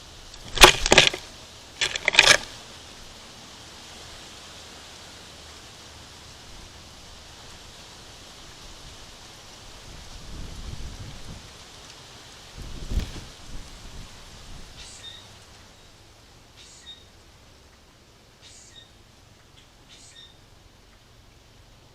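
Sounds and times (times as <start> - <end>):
steady microphone hiss: 0.0 - 21.9.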